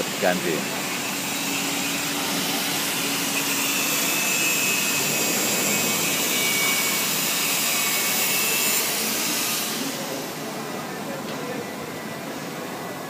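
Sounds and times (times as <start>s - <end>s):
faint high whine: 0.0s - 13.0s
workshop machinery hissing: 0.0s - 13.0s.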